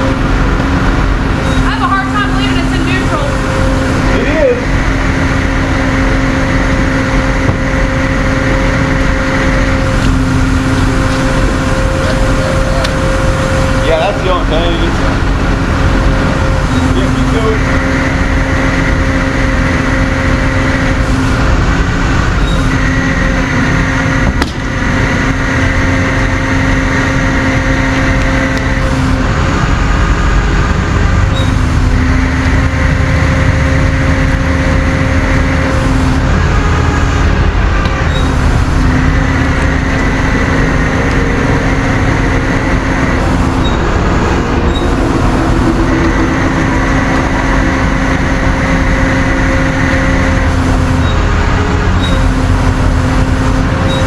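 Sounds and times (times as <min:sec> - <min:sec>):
truck engine running: 0:00.0 - 0:54.0
winch whine: 0:00.0 - 0:54.0.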